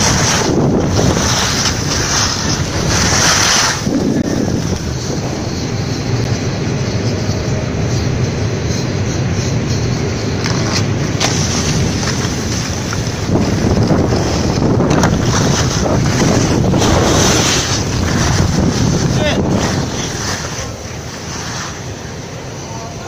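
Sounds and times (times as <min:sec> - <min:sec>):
snowboard edges scraping snow: 0:00.0 - 0:06.3, 0:10.3 - 0:23.0
wind buffeting microphone: 0:00.0 - 0:23.0.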